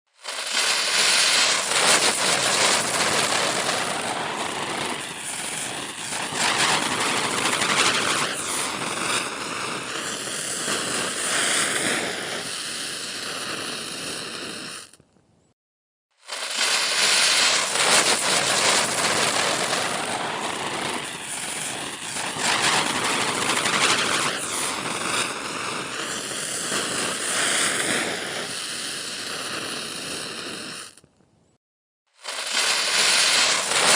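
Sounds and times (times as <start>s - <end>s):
firecracker hissing rush of sparks: 0.1s - 15.0s, 16.2s - 31.1s, 32.2s - 33.9s.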